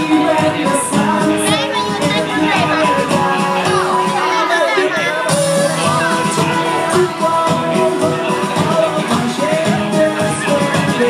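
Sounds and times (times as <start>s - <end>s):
band accompaniment: 0.0s - 11.0s
person singing: 0.0s - 11.0s.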